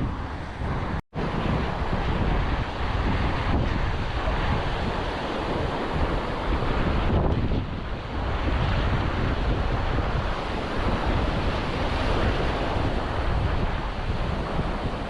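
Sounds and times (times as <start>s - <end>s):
surf washing onto beach: 0.0s - 15.0s
wind rumbling on microphone: 0.0s - 15.0s.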